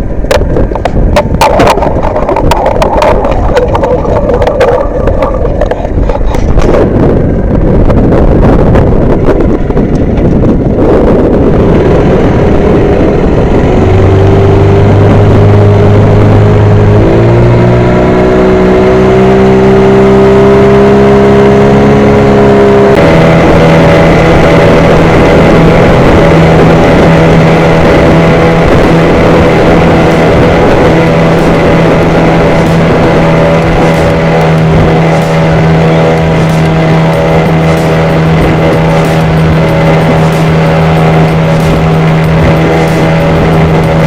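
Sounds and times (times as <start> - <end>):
boat engine running: 0.0 - 44.0
rushing wind and water: 0.0 - 44.0.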